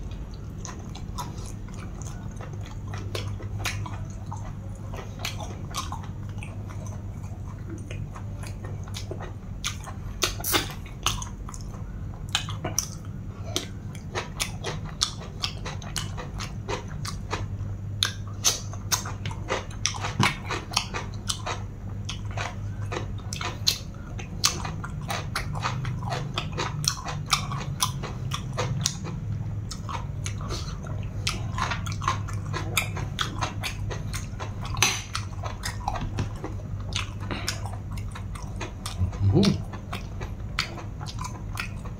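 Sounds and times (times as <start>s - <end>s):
person chewing with crunches: 0.0s - 41.9s
steady low hum: 0.0s - 41.9s.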